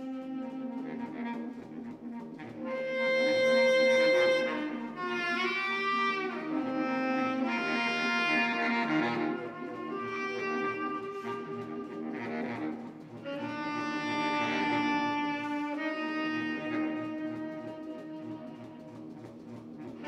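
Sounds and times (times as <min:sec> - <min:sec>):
baritone saxophones playing: 0:00.0 - 0:20.0.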